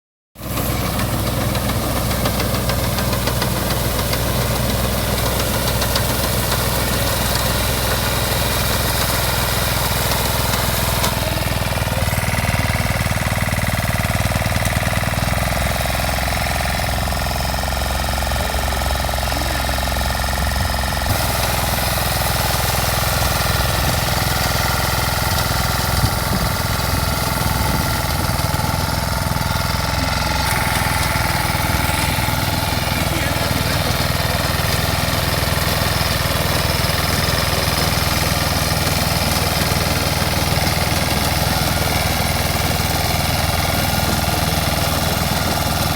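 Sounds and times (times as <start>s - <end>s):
small engine running: 0.4s - 45.9s.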